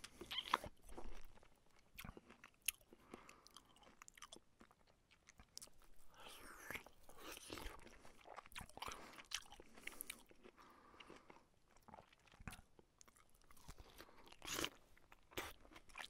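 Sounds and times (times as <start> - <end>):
person chewing and crunching: 0.0 - 16.0.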